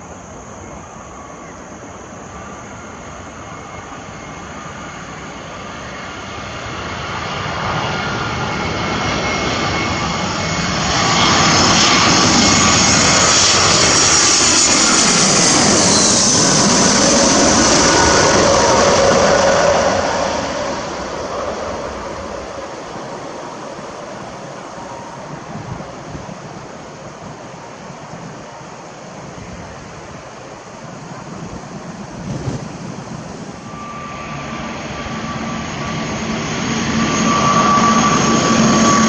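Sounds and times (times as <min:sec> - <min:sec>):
airliner passing overhead: 0:00.0 - 0:39.0.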